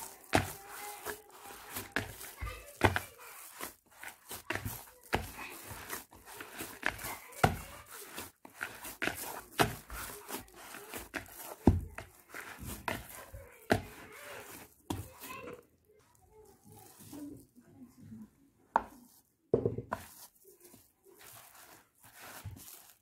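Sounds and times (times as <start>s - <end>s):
dough thumping and slapping in bowl: 0.0s - 15.6s, 18.7s - 23.0s.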